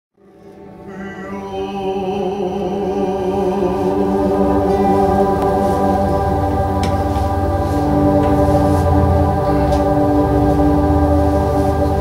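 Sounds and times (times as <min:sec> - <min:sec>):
sustained keyboard chords: 0:00.2 - 0:12.0
person singing: 0:00.3 - 0:12.0.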